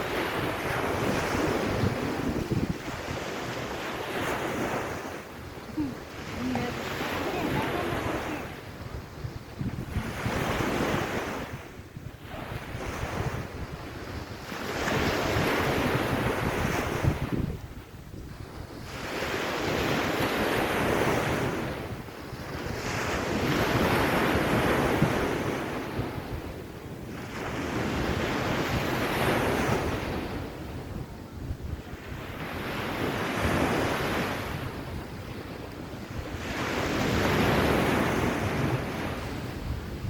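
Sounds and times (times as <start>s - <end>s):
waves breaking on beach: 0.0s - 40.0s
wind buffeting microphone: 0.0s - 40.0s.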